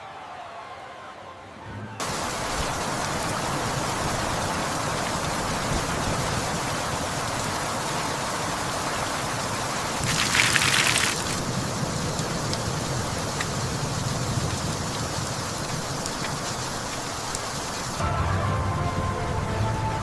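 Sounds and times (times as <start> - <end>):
steady rain falling: 2.0 - 20.0.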